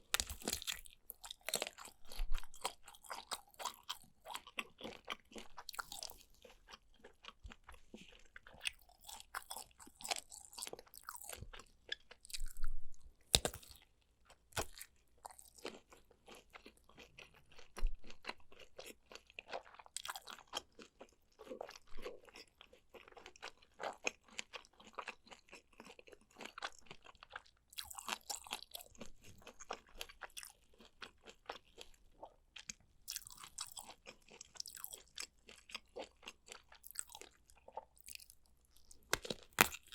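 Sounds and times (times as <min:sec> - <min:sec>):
close chewing and crunching: 0:00.0 - 0:39.9.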